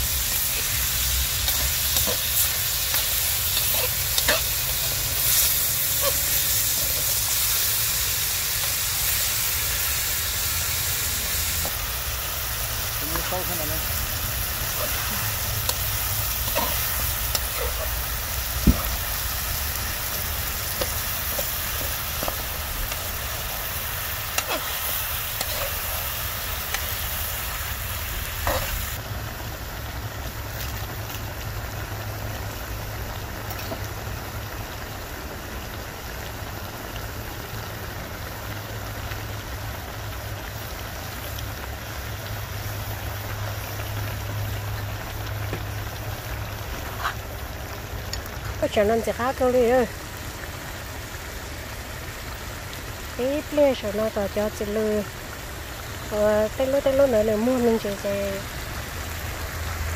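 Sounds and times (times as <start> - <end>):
food sizzling in a wok: 0.0 - 59.9.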